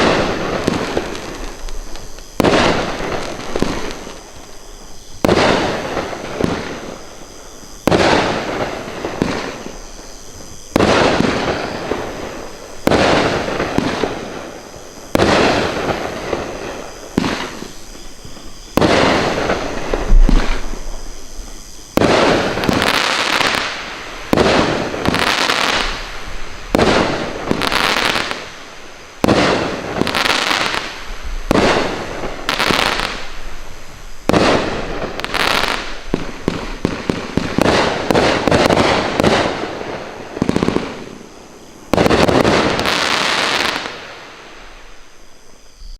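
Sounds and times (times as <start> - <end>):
firework bangs: 0.0 - 45.0
firework crackling and hiss: 0.0 - 45.9.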